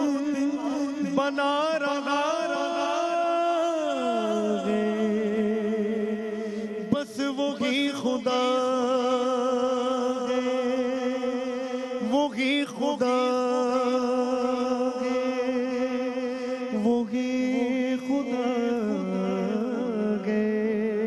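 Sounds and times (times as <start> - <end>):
man singing unaccompanied: 0.0 - 21.0.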